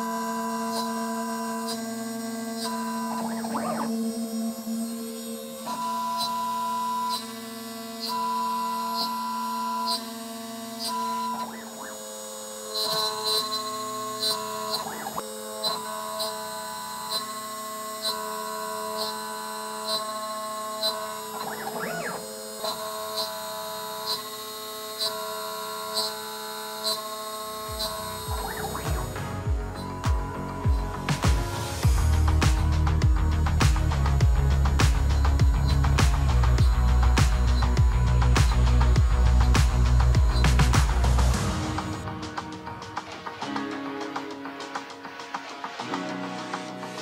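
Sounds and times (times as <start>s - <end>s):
cnc router whining: 0.0s - 47.0s.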